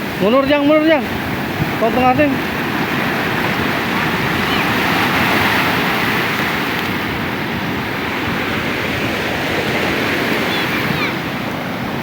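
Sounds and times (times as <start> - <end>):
ocean surf breaking waves: 0.0 - 12.0.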